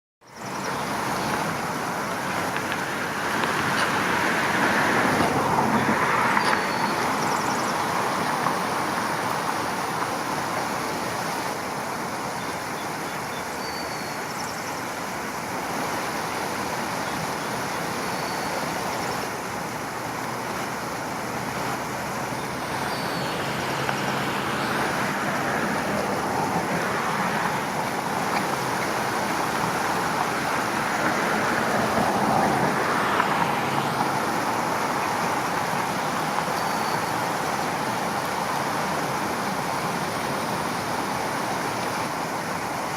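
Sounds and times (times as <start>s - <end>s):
road traffic roar: 0.3s - 42.9s.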